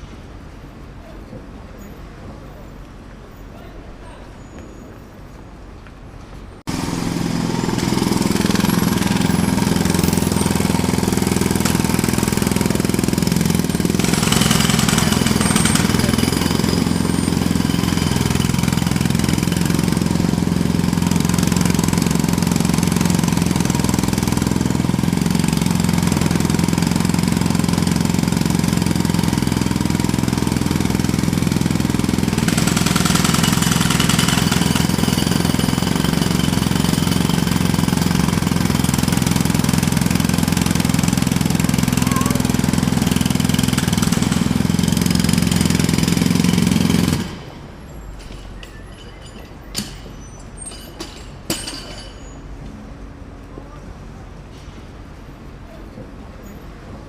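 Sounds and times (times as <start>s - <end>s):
jackhammer hammering: 6.7s - 52.4s.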